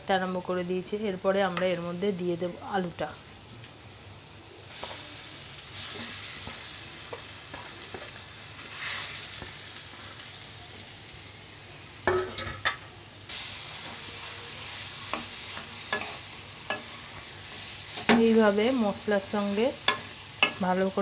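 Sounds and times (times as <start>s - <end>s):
oil sizzling in a pan: 0.0s - 21.0s.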